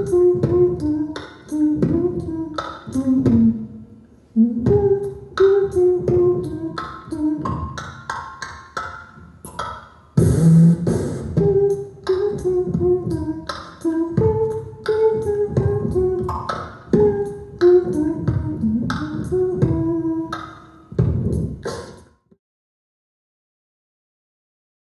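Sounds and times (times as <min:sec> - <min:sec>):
beatboxing drum hits: 0:00.0 - 0:03.6, 0:04.4 - 0:22.2
hummed melody: 0:00.0 - 0:21.8.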